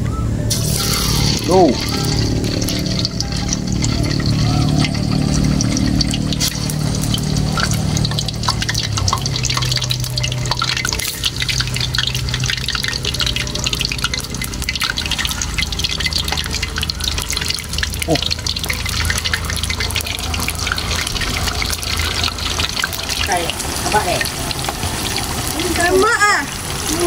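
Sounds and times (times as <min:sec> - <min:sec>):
tofu sizzling in hot oil: 0:00.5 - 0:27.0.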